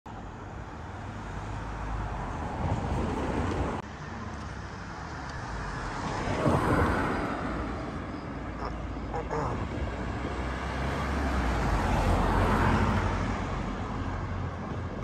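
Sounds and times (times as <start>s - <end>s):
road traffic passing: 0.1s - 15.0s.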